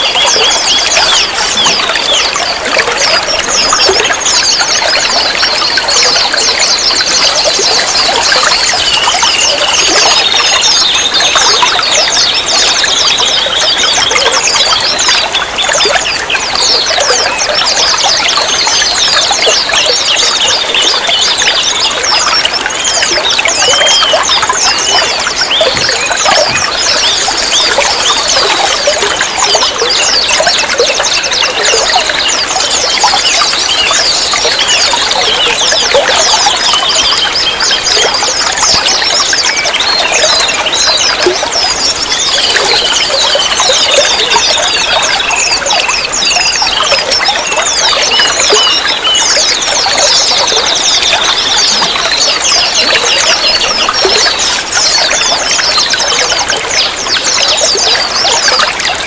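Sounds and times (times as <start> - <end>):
small birds chirping: 0.0 - 59.0
water trickling and splashing: 0.0 - 59.0.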